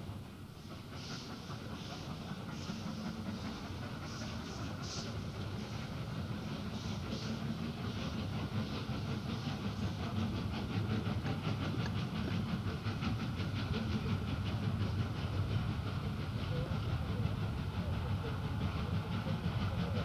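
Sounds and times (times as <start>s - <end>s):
steam hissing: 0.0s - 20.0s
steam locomotive exhaust chuffing: 0.0s - 20.0s.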